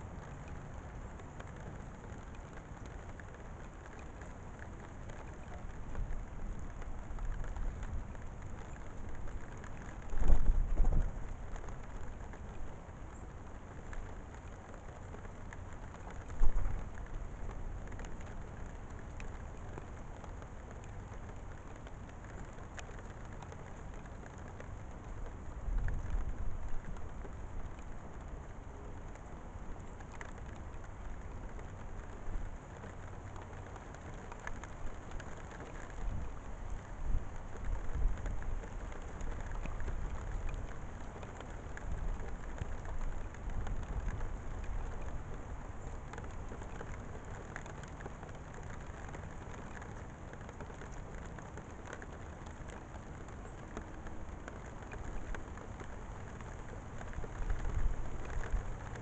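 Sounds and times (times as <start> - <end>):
rain falling: 0.0 - 59.0
small ticks: 0.0 - 59.0.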